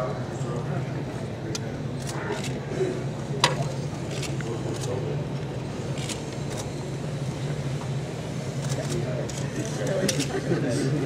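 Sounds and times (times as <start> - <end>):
distant crowd chatter: 0.0 - 11.0
steady low hum: 0.0 - 11.0.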